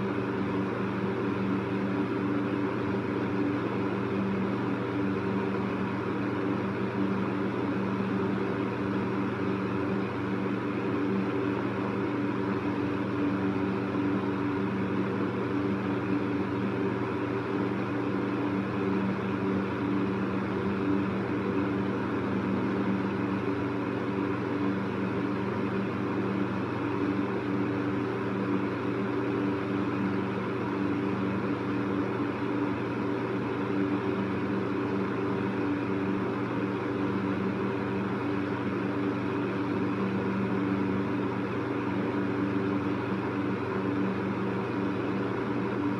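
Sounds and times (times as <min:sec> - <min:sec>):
electric fan running: 0:00.0 - 0:45.9.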